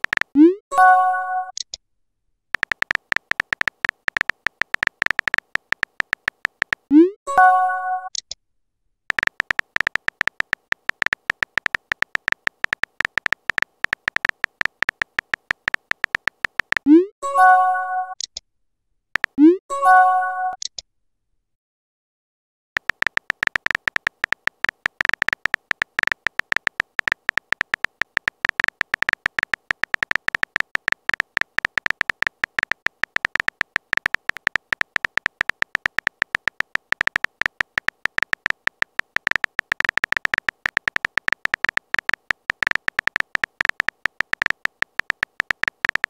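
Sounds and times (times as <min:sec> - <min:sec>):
phone keyboard typing clicks: 0:00.0 - 0:00.6, 0:02.5 - 0:08.3, 0:09.1 - 0:17.0, 0:19.2 - 0:19.5, 0:22.8 - 0:46.0.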